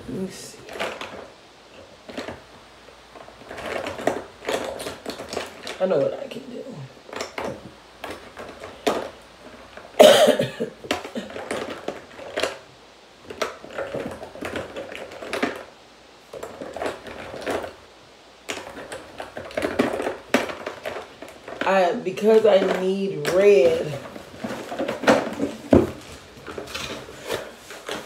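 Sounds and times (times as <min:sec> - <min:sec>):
small containers clattering: 0:00.0 - 0:17.8, 0:18.4 - 0:28.0.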